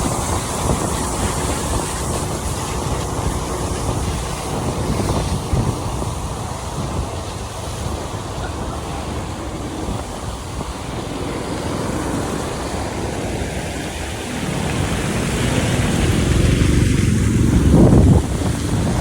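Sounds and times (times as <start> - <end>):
traffic on wet road: 0.0 - 19.0
vehicle passing: 0.0 - 19.0.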